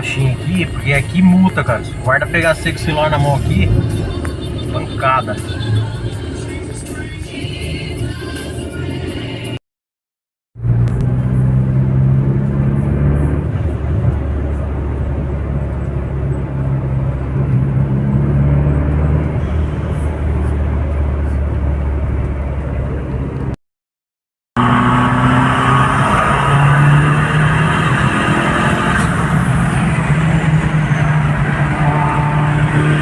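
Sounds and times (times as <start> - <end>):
low engine drone: 0.0 - 6.9, 10.6 - 23.6, 24.6 - 33.0
road noise: 0.0 - 9.6, 10.6 - 23.6, 24.6 - 33.0.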